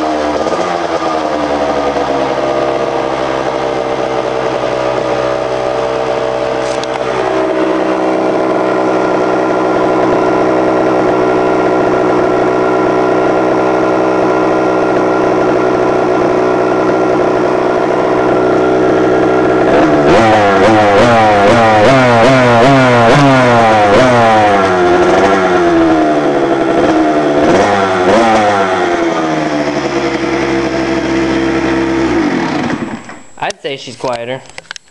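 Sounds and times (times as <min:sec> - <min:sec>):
two-stroke motorcycle engine idling: 0:00.0 - 0:33.5
motorcycle engine throttle blips: 0:00.0 - 0:34.9.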